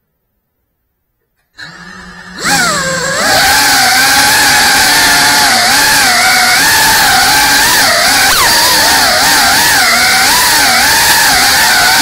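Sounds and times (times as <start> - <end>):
drone motors whining: 1.6 - 12.0.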